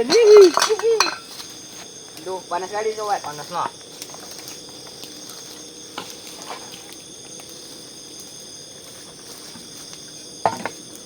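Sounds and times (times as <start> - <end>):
night insects trilling: 0.0 - 11.0
wood fire crackles: 0.0 - 11.0.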